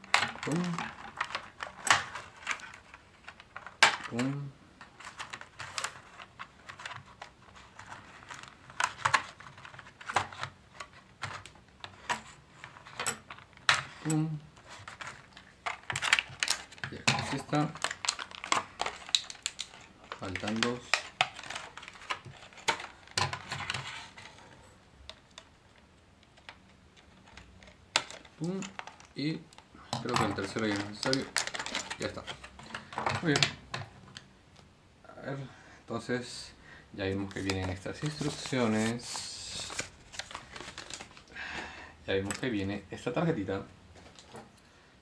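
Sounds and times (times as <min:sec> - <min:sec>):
plastic packaging crinkling: 0:00.0 - 0:33.6, 0:37.0 - 0:41.4.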